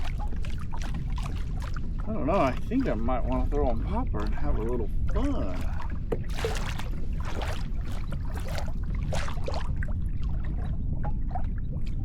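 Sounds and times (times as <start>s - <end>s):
water splashing around kayak: 0.0s - 12.0s
wind rumble on microphone: 0.0s - 12.0s.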